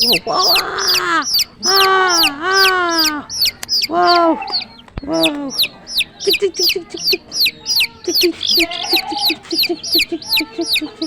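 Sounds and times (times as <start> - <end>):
chicken calling: 0.0 - 11.0
chicken clucking: 0.0 - 11.0
chicks peeping: 0.0 - 11.0.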